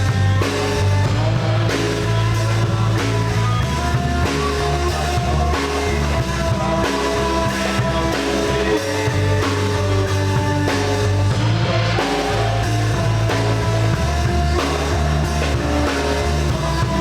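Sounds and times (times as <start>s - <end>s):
bass guitar: 0.0s - 17.0s
drum kit beat: 0.0s - 17.0s
electric guitar: 0.0s - 17.0s.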